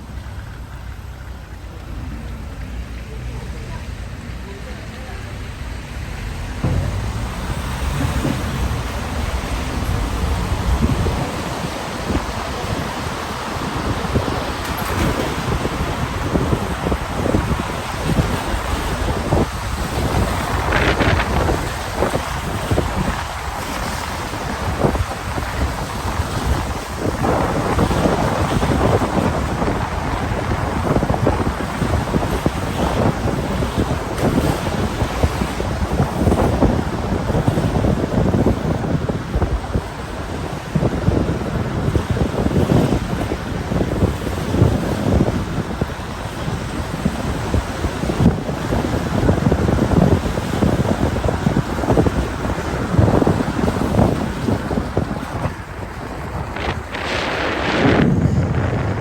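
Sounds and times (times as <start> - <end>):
rain rushing: 0.0 - 37.4, 43.2 - 59.0
wind buffeting microphone: 0.0 - 59.0.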